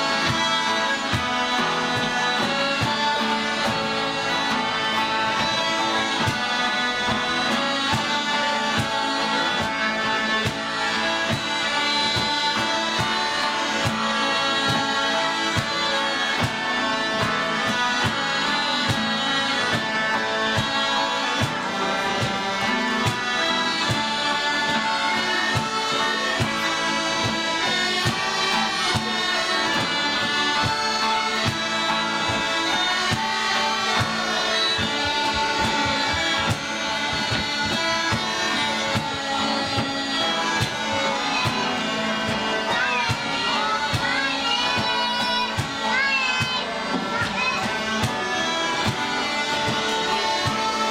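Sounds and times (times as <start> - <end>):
acoustic guitars: 0.0 - 50.9
fiddle: 0.0 - 50.9
smallpipes playing with drone: 0.0 - 50.9.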